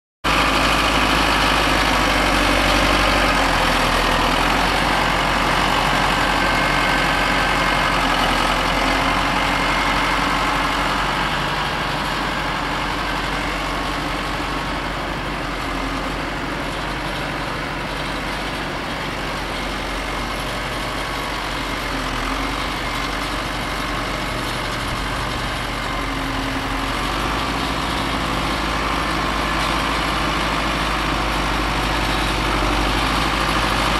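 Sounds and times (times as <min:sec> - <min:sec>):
diesel tractor engines running: 0:00.3 - 0:33.9.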